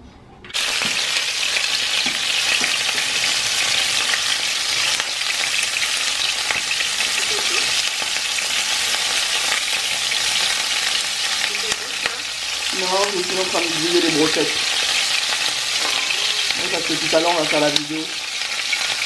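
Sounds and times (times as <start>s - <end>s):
skewers sizzling in hot oil: 0.5s - 19.0s.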